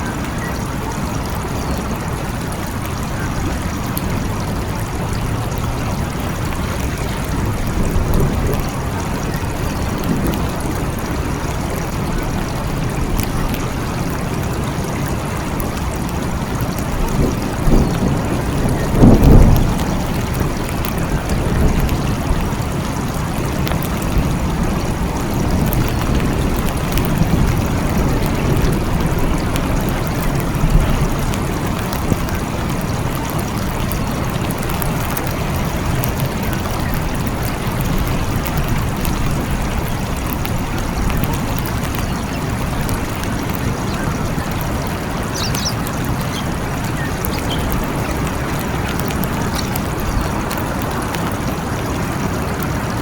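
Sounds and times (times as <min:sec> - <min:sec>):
steady rain falling: 0:00.0 - 0:53.0
low thunder rumbling: 0:01.8 - 0:13.9, 0:14.6 - 0:53.0.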